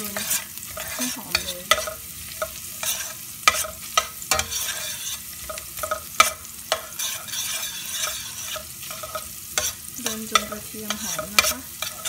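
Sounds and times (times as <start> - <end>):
food sizzling in oil: 0.0 - 12.0
metal spoon clinking and scraping pot: 0.0 - 12.0.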